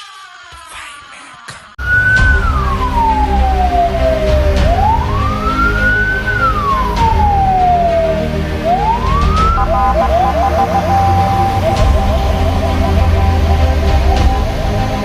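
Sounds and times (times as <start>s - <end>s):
fire truck siren wailing: 1.8s - 15.0s.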